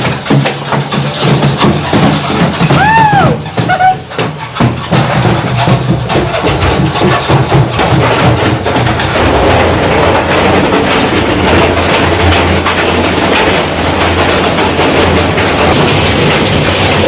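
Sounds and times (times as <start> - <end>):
stones banging in washing machine drum: 0.0 - 17.0.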